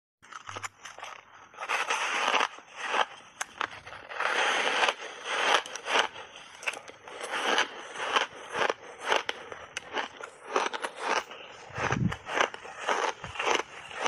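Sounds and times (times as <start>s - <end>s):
ice being chewed: 0.2s - 14.0s.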